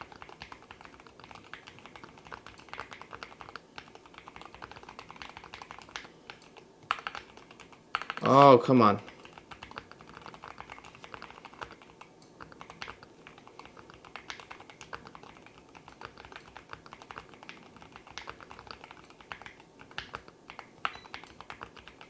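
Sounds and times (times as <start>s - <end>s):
soft keyboard keystroke clacks: 0.0s - 8.4s, 9.0s - 22.0s.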